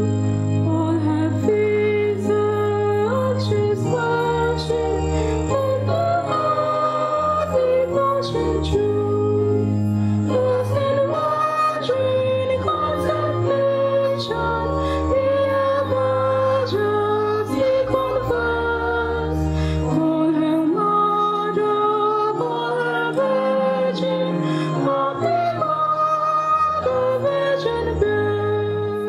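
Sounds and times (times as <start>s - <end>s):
group singing a hymn: 0.9s - 9.7s, 10.3s - 19.4s, 20.3s - 28.1s.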